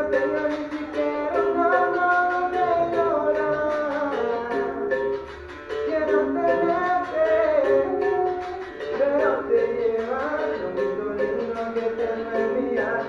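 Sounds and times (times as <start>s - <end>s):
berimbau struck in rhythm: 0.0s - 13.0s
person singing: 0.0s - 13.0s.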